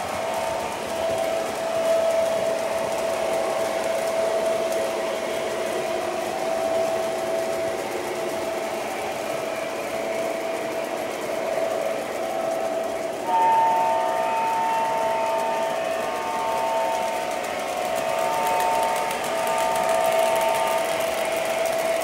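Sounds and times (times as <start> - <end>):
constant whine: 0.0 - 22.0
model train motor whirring: 0.0 - 22.0.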